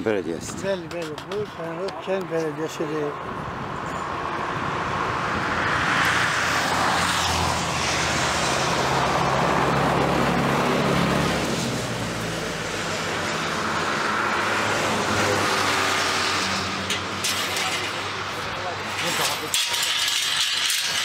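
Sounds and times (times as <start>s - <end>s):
vehicle passing by: 2.5s - 21.0s.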